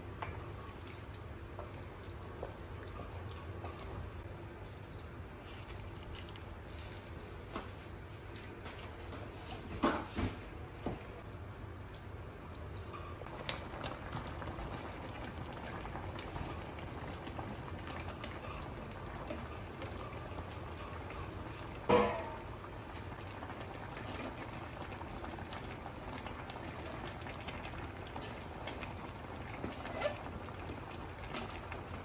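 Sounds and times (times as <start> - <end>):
broth bubbling in a wok: 0.0 - 7.4, 11.1 - 32.0.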